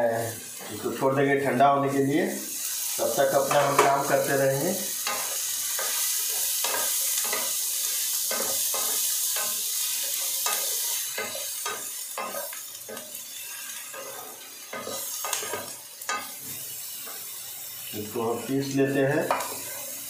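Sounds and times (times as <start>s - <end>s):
onion and tomato sizzling in pan: 0.0s - 20.0s.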